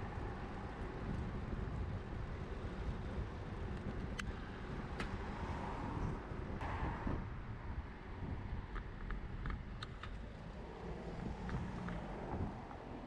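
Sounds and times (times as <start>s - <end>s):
bicycle tyre rumble: 0.0s - 13.0s
wind buffeting microphone: 0.0s - 13.0s.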